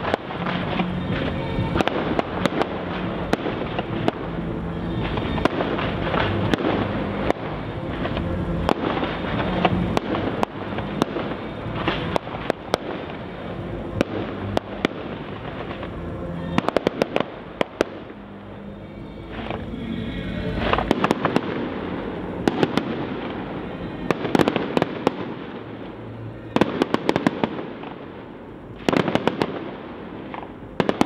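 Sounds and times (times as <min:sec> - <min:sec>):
fireworks bangs and cracks: 0:00.0 - 0:19.8, 0:20.4 - 0:31.0.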